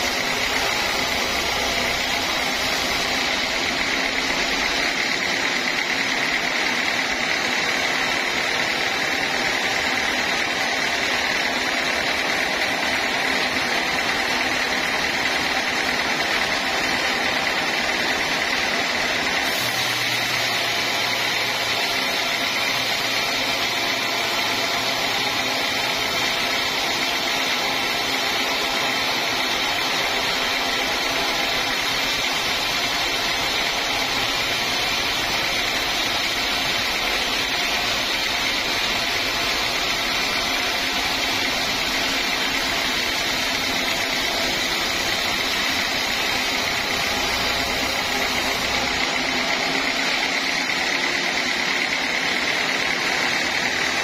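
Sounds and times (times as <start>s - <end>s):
saw blade whining in wood: 0.0s - 54.0s
sawmill running noise: 0.0s - 54.0s.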